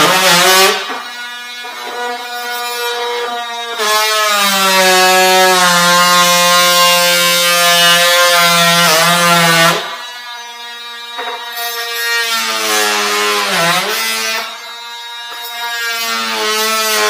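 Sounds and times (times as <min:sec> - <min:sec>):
electric power tool cutting: 0:00.0 - 0:17.0.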